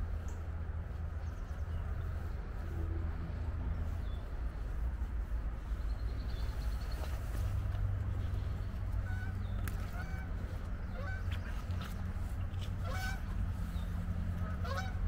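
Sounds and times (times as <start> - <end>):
low rumble and rushing noise: 0.0 - 15.0.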